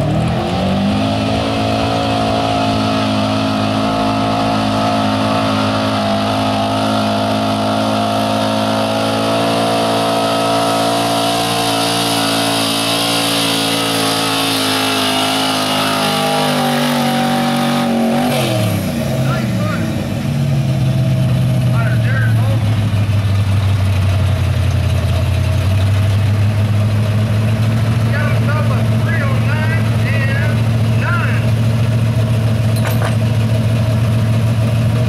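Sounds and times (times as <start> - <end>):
truck engine at full throttle: 0.0 - 35.0.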